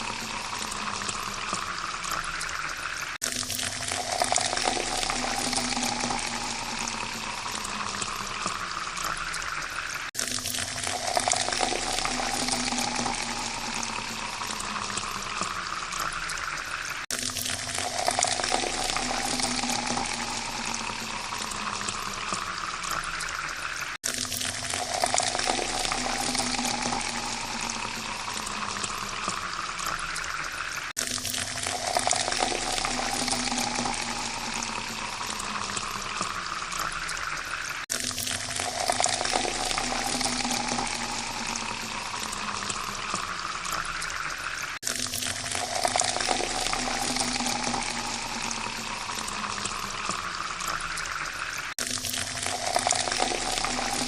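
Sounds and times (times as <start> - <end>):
water pouring into a glass: 0.0 - 54.0.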